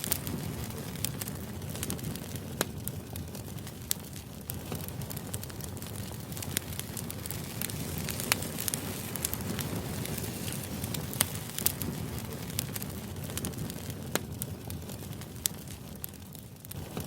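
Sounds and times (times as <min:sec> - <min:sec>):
sharp crackles and pops: 0:00.0 - 0:17.0.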